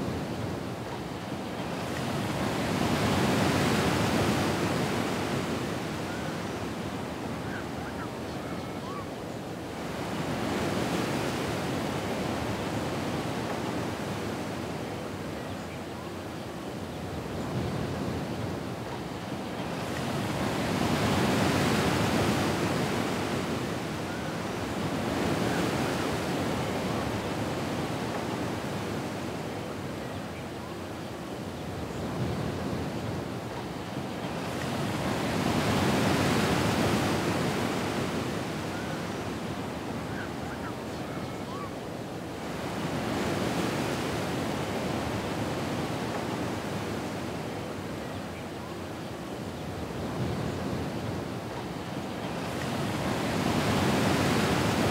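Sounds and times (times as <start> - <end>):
ocean waves surging onto shore: 0.0 - 15.4, 17.0 - 54.9.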